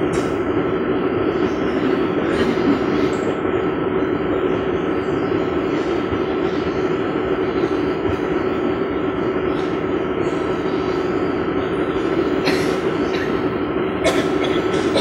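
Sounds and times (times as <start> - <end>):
steady machine drone: 0.0 - 15.0.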